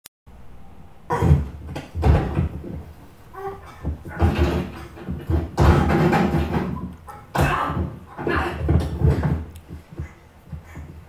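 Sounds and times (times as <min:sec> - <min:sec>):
heavy thuds and bangs: 0:01.1 - 0:11.0.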